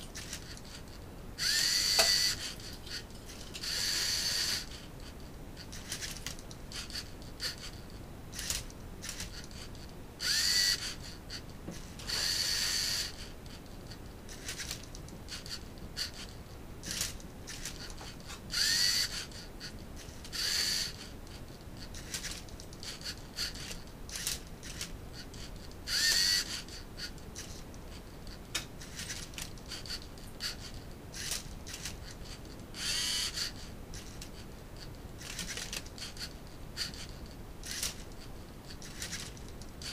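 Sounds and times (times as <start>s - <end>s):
robot motors whirring: 0.2s - 4.8s, 5.6s - 11.2s, 11.8s - 13.6s, 14.3s - 21.1s, 21.8s - 27.6s, 28.8s - 34.4s, 35.2s - 38.1s, 38.8s - 39.9s.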